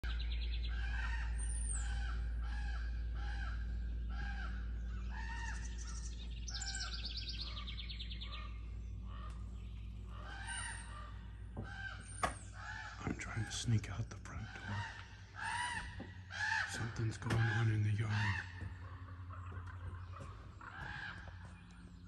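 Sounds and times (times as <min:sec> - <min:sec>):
steady low hum: 0:00.0 - 0:22.0
rapid rattling bird call: 0:00.2 - 0:22.0
crows cawing: 0:00.5 - 0:22.0.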